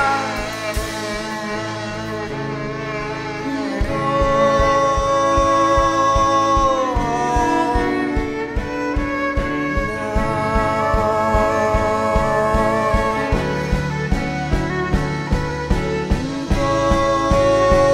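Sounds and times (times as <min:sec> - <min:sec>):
band playing long held notes: 0:00.0 - 0:17.9
steady drum beat: 0:00.0 - 0:17.9.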